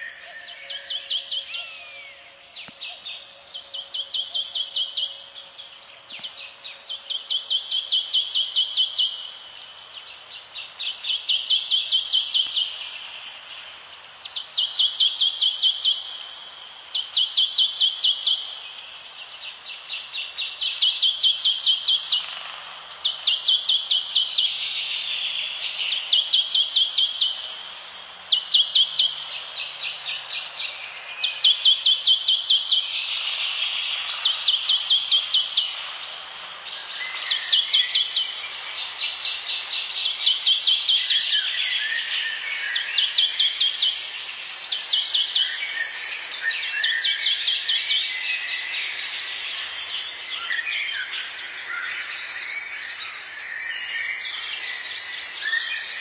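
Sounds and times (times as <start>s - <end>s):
forest ambience hiss: 0.0s - 56.0s.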